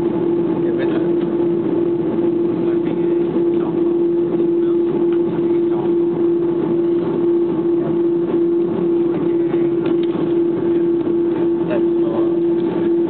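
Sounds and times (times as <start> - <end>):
airliner engine drone in cabin: 0.0 - 13.0.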